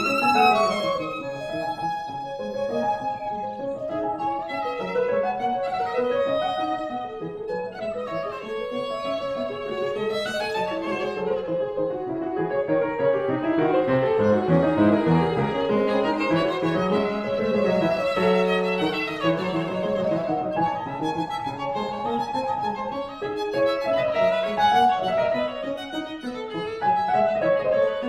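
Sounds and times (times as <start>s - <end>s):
bowed string music: 0.0s - 28.0s
violin melody: 0.0s - 28.0s.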